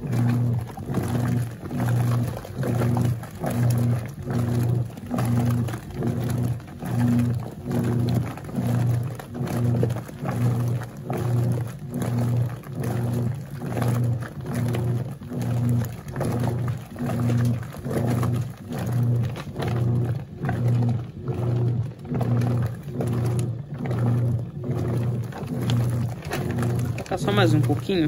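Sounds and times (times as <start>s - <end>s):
washing machine motor pulsing hum: 0.0s - 28.0s
water sloshing in tub: 0.0s - 28.0s.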